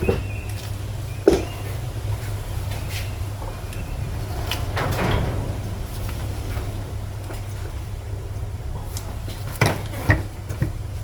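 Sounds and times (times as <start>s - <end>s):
steady low hum: 1.8s - 11.0s.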